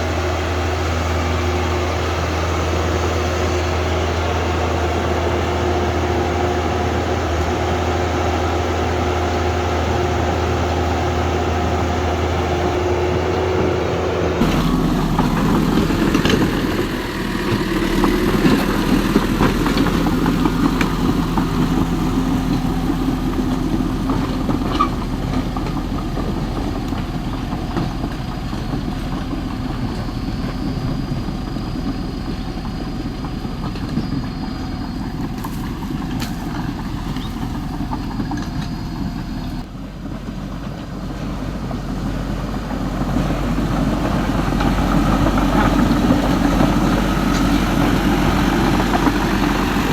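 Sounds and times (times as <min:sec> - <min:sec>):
model excavator motor hum: 0:00.0 - 0:49.9.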